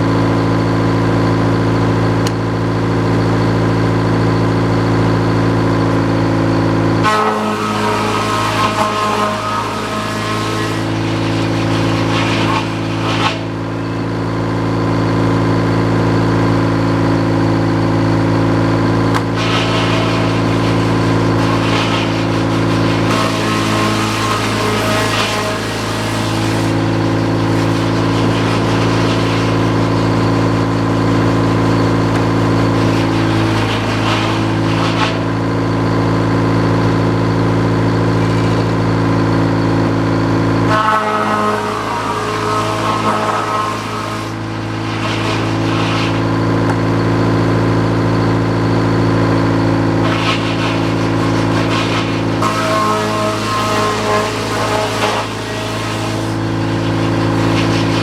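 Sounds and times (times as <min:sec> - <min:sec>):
sawmill engine running: 0:00.0 - 0:58.0
higher-pitched noise surges: 0:05.2 - 0:58.0.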